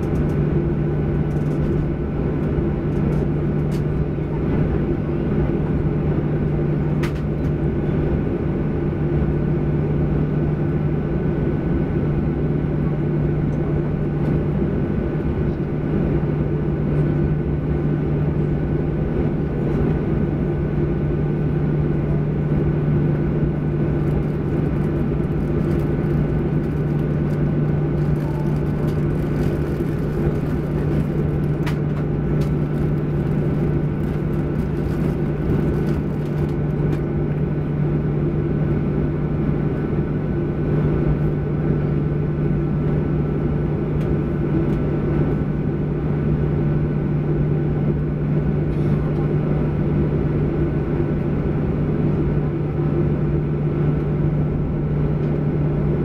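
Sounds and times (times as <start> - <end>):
air-conditioning drone with whine: 0.0 - 56.0.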